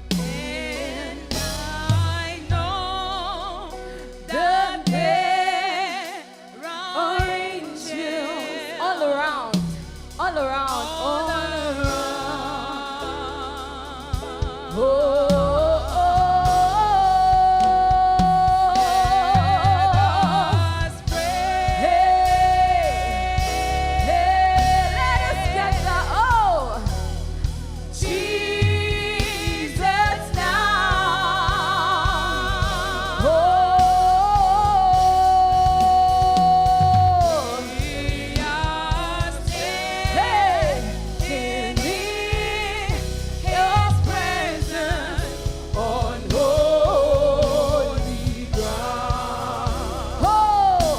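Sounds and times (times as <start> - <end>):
band with steady bass: 0.0 - 6.6, 9.0 - 50.9
person singing with vibrato: 0.0 - 9.6, 10.2 - 26.9, 28.0 - 50.9.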